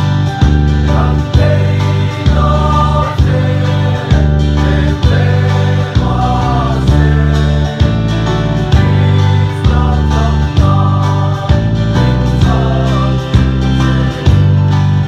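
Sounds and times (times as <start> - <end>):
steady beat: 0.4 - 14.7
men singing a hymn: 0.7 - 15.0.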